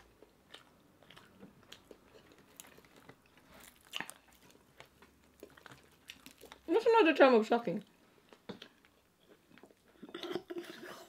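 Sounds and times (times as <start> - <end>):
people chewing food: 0.0 - 7.0, 7.8 - 11.0.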